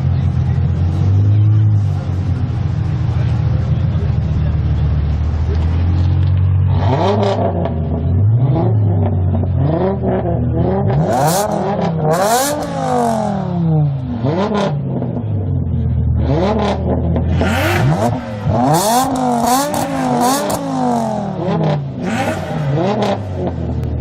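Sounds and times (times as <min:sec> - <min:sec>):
car engine idling: 0:00.0 - 0:06.8, 0:07.5 - 0:24.0
car engine revving: 0:00.0 - 0:24.0.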